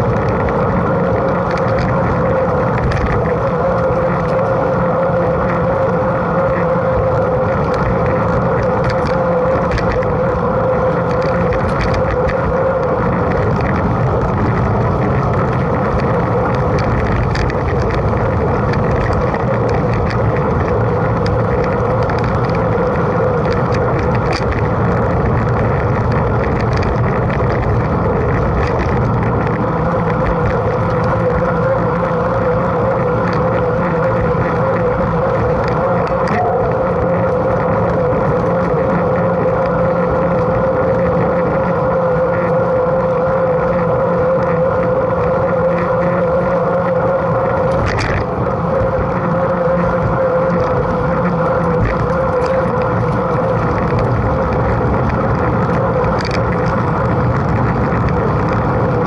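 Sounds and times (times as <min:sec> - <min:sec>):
bike ticks and rattles: 0:00.0 - 0:59.0
bike tyre noise: 0:00.0 - 0:59.0
constant hum: 0:00.0 - 0:59.0
wind on microphone: 0:00.0 - 0:59.0.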